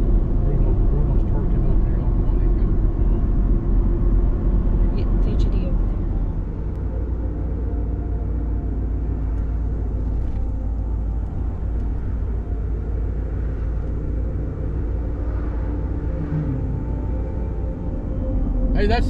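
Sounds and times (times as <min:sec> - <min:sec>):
engine and road noise rumble: 0:00.0 - 0:19.0.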